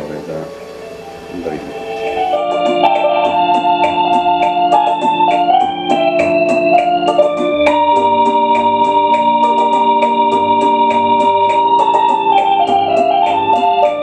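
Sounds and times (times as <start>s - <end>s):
electric organ sustained chords: 0.0s - 14.0s
light ticking beat: 0.0s - 14.0s.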